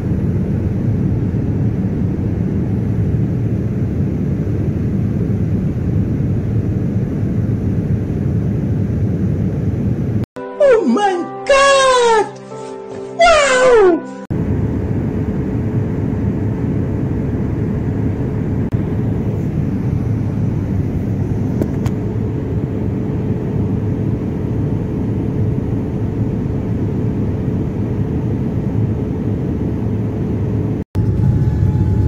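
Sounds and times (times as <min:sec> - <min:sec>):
jet cabin drone: 0:00.0 - 0:10.5, 0:13.8 - 0:32.0.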